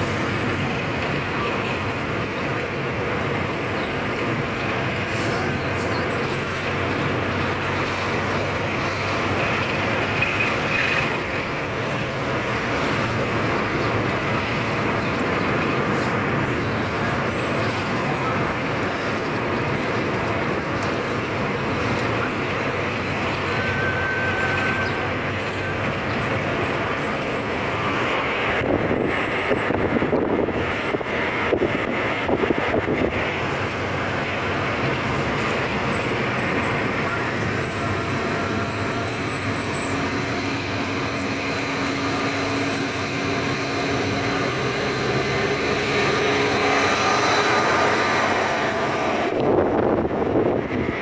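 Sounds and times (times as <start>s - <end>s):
city traffic rumble: 0.0s - 51.0s.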